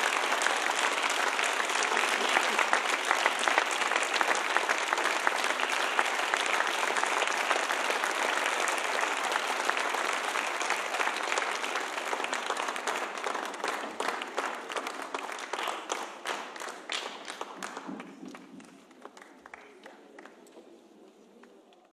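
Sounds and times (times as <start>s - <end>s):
audience applauding: 0.0s - 21.8s.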